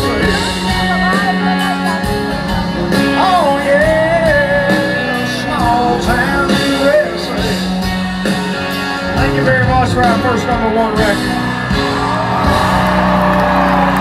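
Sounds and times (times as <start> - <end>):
live country band: 0.0 - 14.0.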